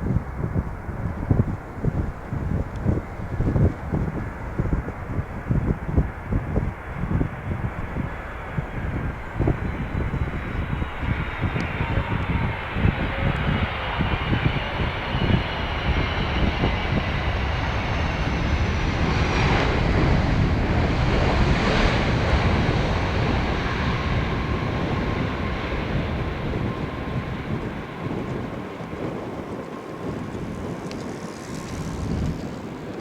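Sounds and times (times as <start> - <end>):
high jet whine: 0.0 - 33.0
jet engines roaring: 0.0 - 33.0.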